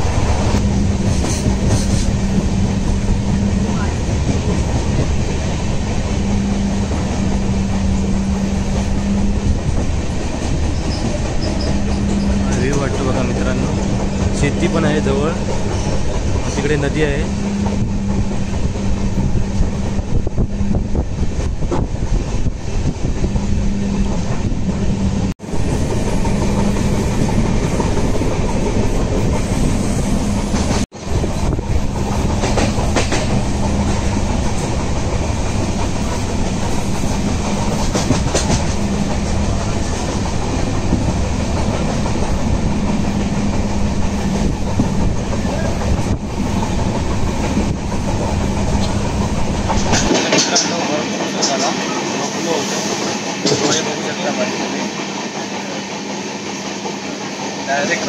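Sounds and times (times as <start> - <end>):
train wheels on rail: 0.0 - 58.0.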